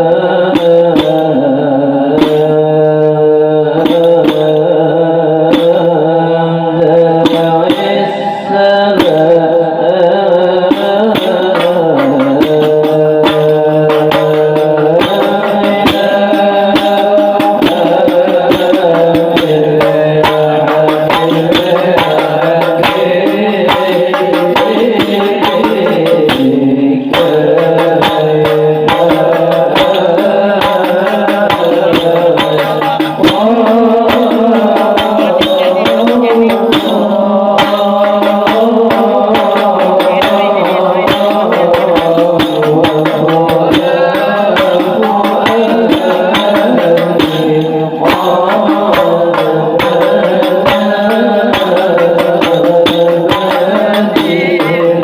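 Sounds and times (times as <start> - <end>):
hand drums beating: 0.0 - 6.1, 6.7 - 55.0
voices chanting devotional song: 0.0 - 55.0.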